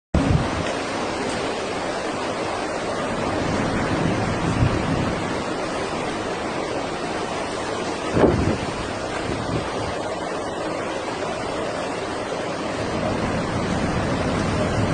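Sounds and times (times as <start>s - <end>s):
strong wind: 0.1s - 14.9s
wind buffeting microphone: 0.1s - 14.9s
rough water: 0.2s - 14.9s.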